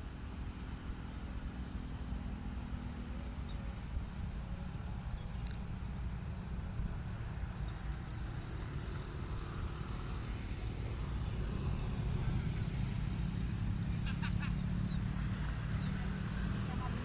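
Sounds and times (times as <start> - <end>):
helicopter flying low: 0.0 - 17.0.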